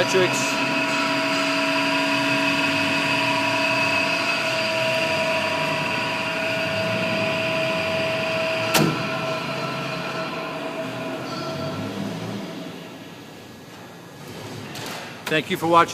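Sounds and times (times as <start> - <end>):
lathe gearbox whine: 0.0 - 13.2.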